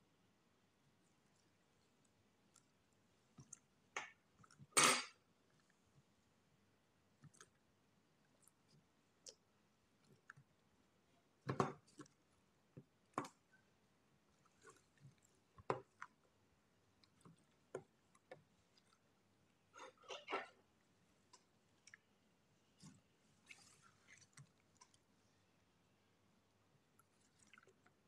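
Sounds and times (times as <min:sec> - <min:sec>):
slime squelching: 0:01.0 - 0:06.1, 0:07.0 - 0:25.6, 0:26.8 - 0:28.0.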